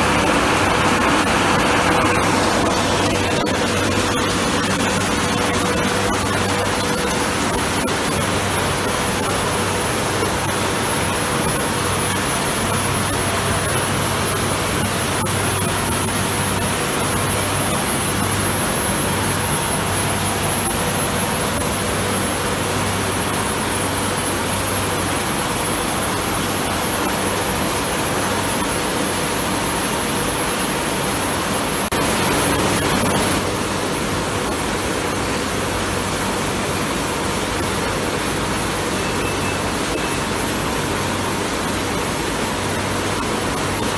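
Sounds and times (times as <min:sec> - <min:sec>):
machine rushing noise with hum: 0:00.0 - 0:39.0.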